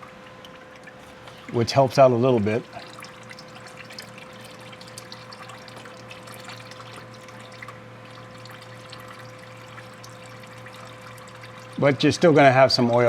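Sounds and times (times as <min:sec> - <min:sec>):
oil dripping: 0:00.0 - 0:13.0
steady low hum: 0:00.0 - 0:13.0.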